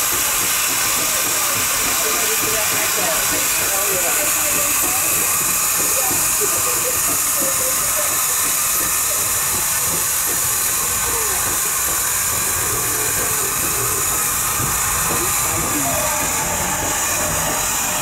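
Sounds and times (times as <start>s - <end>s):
loud steam hiss: 0.0s - 18.0s
low running noise: 0.1s - 18.0s.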